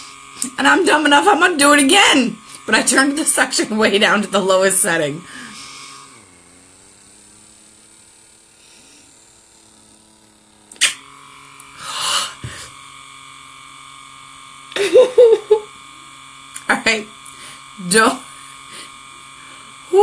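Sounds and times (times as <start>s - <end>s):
small electric motor humming: 0.0s - 20.0s.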